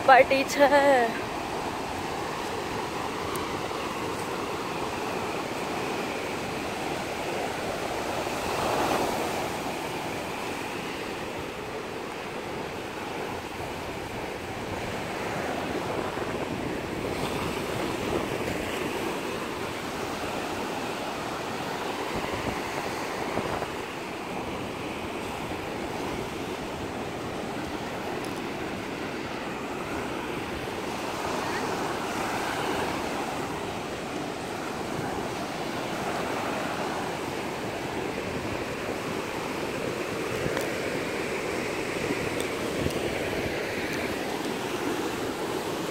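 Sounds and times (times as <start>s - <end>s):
waves breaking on sandy beach: 0.0s - 45.9s.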